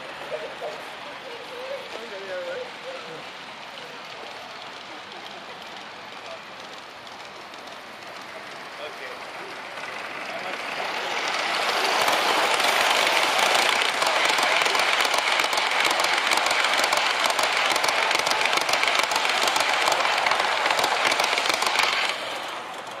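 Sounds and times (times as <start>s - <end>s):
model train wheels rattling on track: 0.0s - 23.0s.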